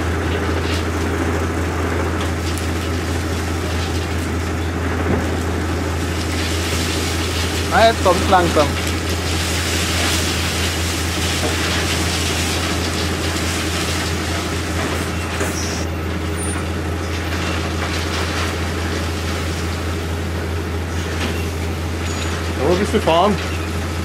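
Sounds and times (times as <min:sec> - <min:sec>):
wood chips pouring: 0:00.0 - 0:15.9, 0:16.6 - 0:24.0
truck engine humming: 0:00.0 - 0:24.0.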